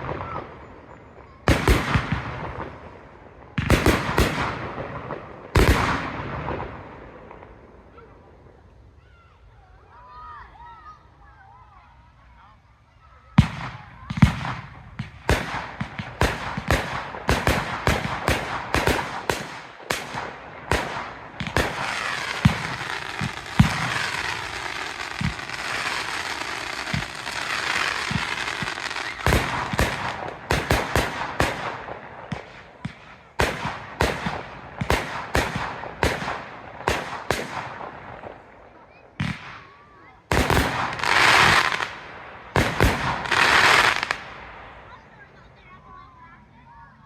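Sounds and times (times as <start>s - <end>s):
fireworks bangs and crackle: 0.0s - 8.6s, 13.0s - 45.7s.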